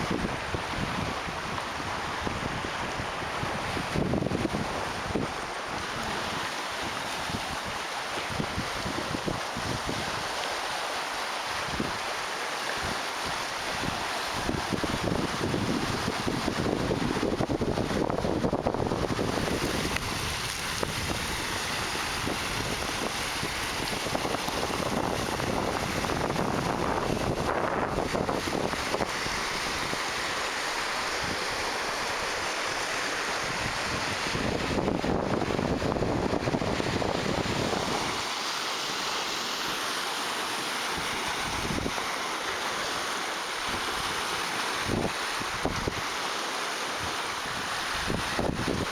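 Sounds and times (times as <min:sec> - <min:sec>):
wind buffeting microphone: 0:00.0 - 0:10.3, 0:12.8 - 0:38.2, 0:41.0 - 0:42.0, 0:44.8 - 0:46.1, 0:47.0 - 0:48.9
waves breaking on rocks: 0:00.0 - 0:48.9.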